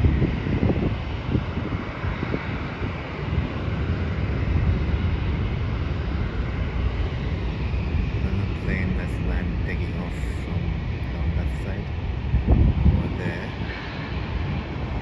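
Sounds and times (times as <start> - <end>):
distant jet engines rumbling: 0.0 - 15.0
wind buffeting microphone: 0.0 - 15.0.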